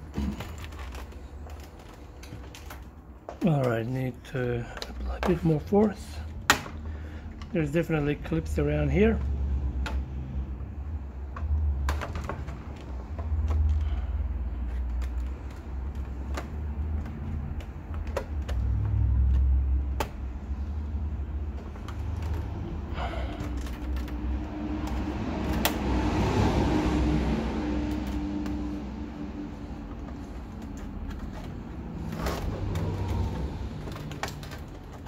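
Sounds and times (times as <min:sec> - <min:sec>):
plastic clips clicking and creaking: 0:00.0 - 0:35.0.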